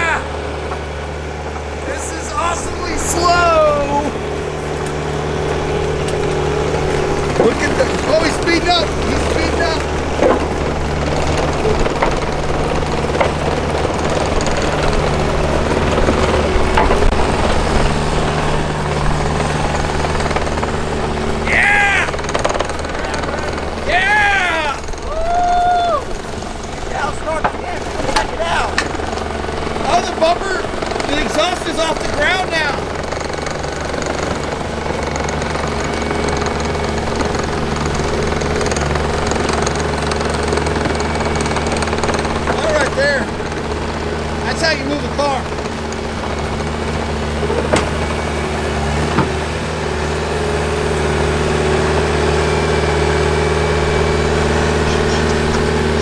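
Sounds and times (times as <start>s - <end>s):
bulldozer diesel engine droning: 0.0s - 56.0s
metal knocks: 0.0s - 56.0s.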